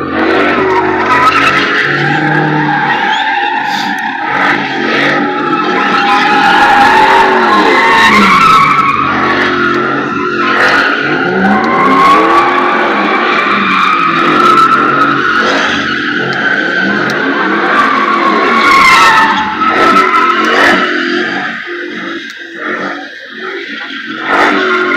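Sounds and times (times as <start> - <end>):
engine revving: 0.0 - 24.9
tires squealing: 0.0 - 24.9.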